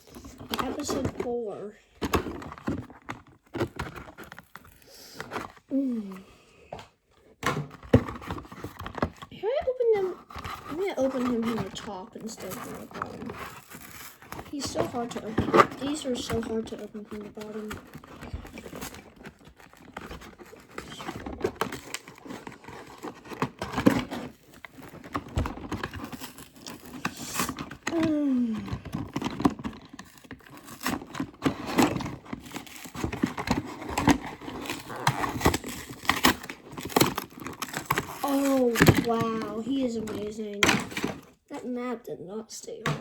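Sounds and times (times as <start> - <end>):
packaging tearing and crinkling: 0.0 - 1.4, 2.0 - 6.2, 7.4 - 41.4.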